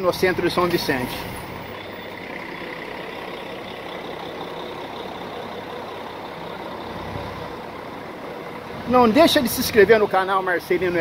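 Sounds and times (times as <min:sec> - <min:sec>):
street traffic noise: 0:00.0 - 0:11.0
vehicle engine running: 0:00.1 - 0:11.0.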